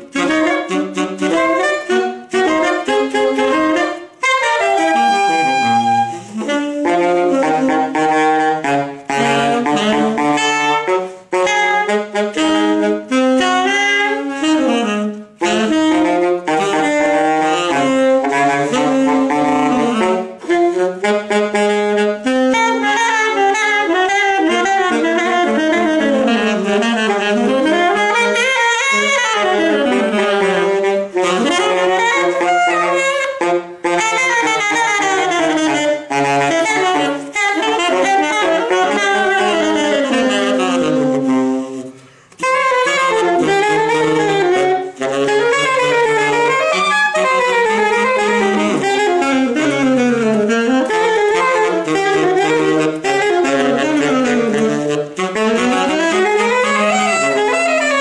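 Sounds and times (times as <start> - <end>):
saxophone duet jazz: 0.0 - 58.0.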